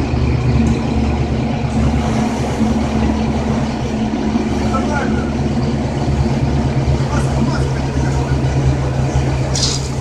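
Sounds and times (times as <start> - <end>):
fire engine engine running: 0.0 - 10.0.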